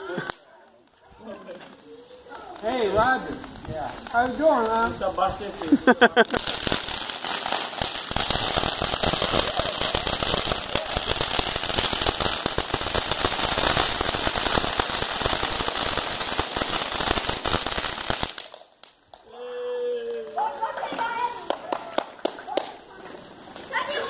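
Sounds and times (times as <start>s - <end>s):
firework fountain crackling and hissing: 0.0s - 24.0s.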